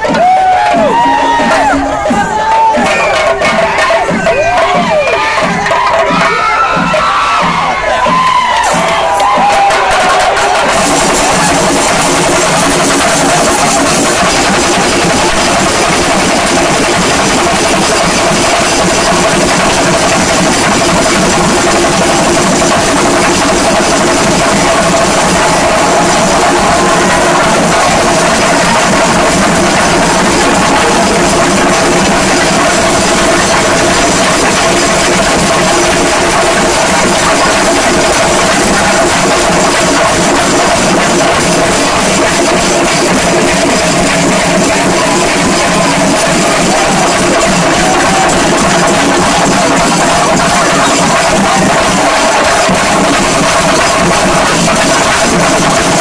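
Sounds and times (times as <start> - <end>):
drums beaten with sticks: 0.0 - 56.0.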